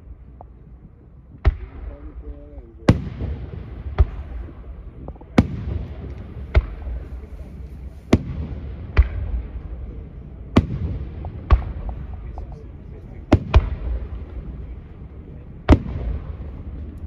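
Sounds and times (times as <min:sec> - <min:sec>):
low rolling rumble and echo: 0:00.0 - 0:17.0.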